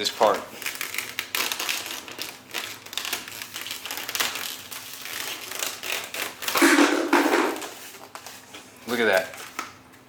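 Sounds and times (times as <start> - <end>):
plastic cover crinkling: 0.0 - 10.0.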